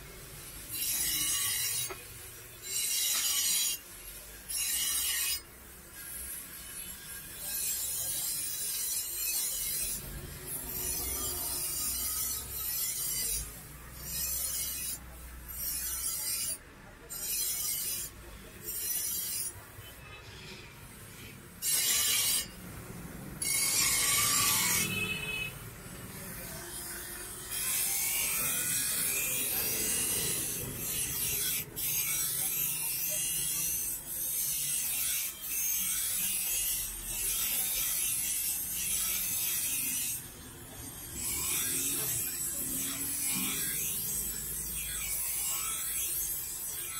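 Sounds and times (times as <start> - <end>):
grinder wheel grinding knife blade: 0.1 - 46.9.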